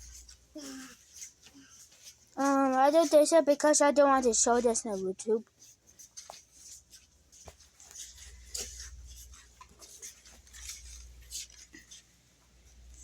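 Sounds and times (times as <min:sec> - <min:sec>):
light clicks and rustles: 0:00.0 - 0:03.3, 0:04.3 - 0:13.0.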